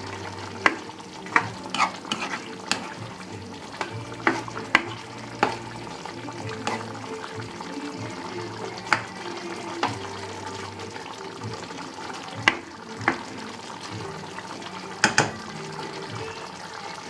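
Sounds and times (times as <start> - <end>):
utensil clacking against pan: 0.0 - 13.3, 15.0 - 15.5
curry sizzling in a pan: 0.0 - 17.0.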